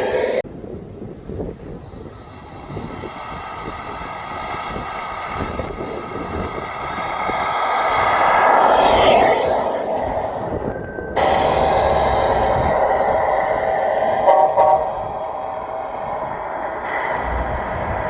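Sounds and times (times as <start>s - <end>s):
vehicle approaching: 1.8s - 18.0s.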